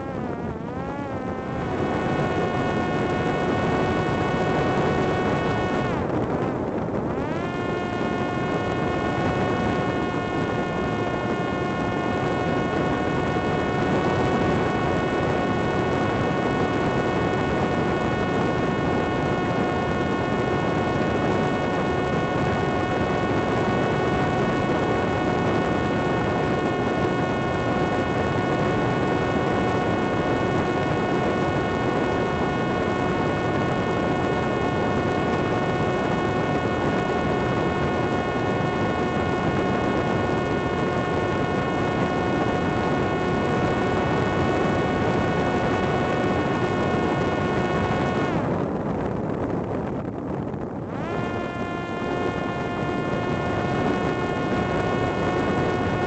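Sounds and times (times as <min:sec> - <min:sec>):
drone motor whine: 0:00.0 - 0:56.0.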